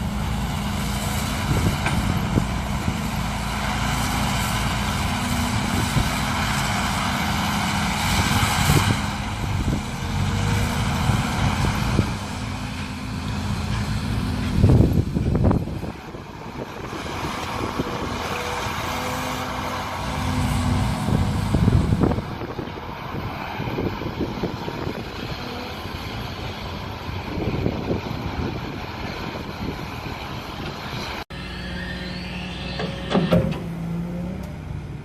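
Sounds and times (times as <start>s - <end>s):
excavator diesel engine: 0.0s - 35.0s.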